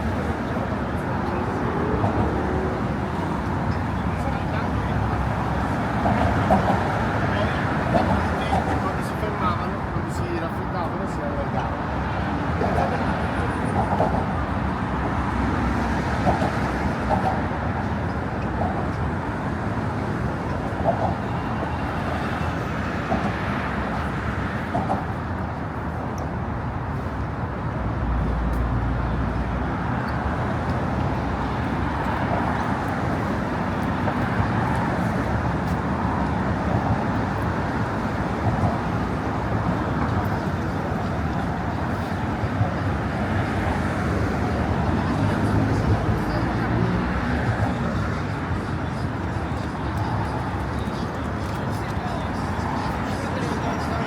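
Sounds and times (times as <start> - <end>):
road traffic on a bridge: 0.0 - 54.0.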